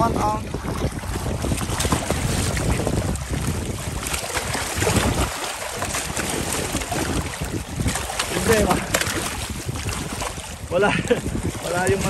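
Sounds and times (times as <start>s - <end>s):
water lapping among rocks: 0.0s - 12.0s
wind buffeting microphone: 0.0s - 12.0s.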